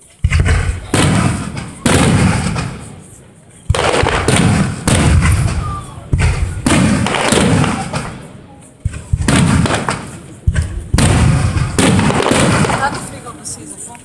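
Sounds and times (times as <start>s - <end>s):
firework bangs with rumbling echo: 0.2s - 3.1s, 3.7s - 13.4s.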